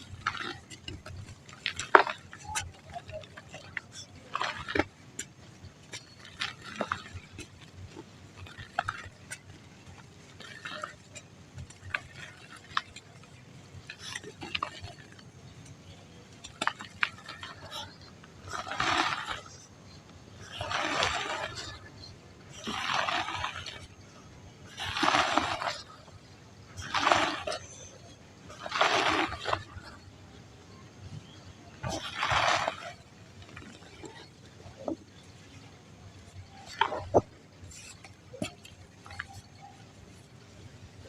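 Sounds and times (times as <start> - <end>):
dry mud cracking and crumbling: 0.0 - 24.0, 26.7 - 30.0, 31.2 - 35.6, 36.2 - 41.0
gritty crunching: 0.0 - 30.1, 31.2 - 41.0.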